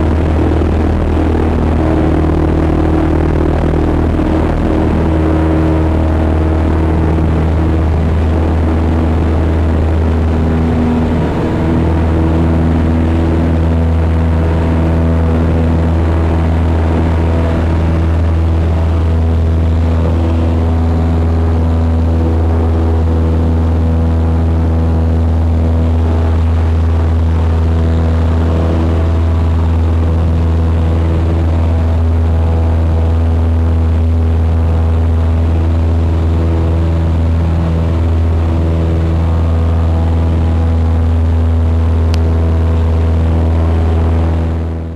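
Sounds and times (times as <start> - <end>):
propeller plane engine drone: 0.0 - 44.9.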